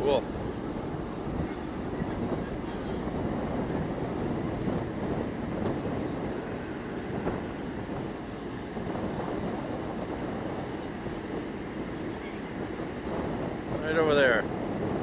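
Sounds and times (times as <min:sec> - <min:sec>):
strong wind across microphone: 0:00.0 - 0:15.0.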